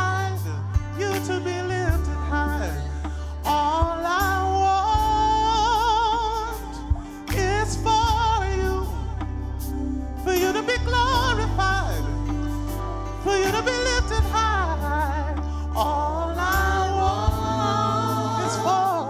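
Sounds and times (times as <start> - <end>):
band with bass and drums: 0.0 - 19.0
person singing with vibrato: 0.0 - 19.0.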